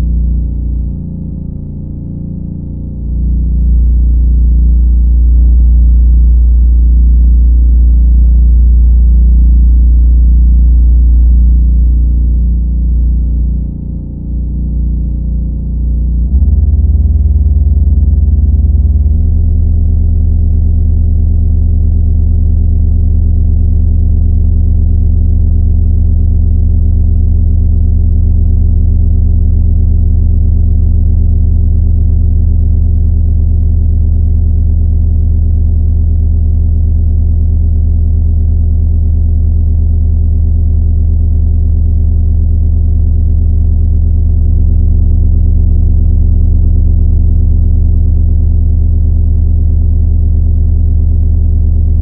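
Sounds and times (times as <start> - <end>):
low electronic drone: 0.0 - 52.0.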